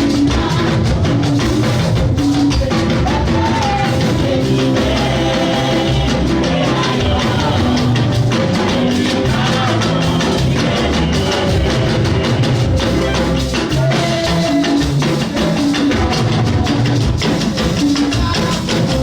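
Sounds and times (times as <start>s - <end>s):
drum kit beat: 0.0s - 19.0s
upbeat band music: 0.0s - 19.0s.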